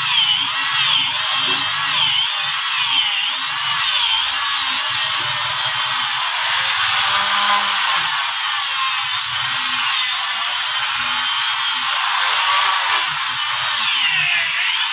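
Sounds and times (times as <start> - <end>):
power tool whining on wood: 0.0 - 14.9.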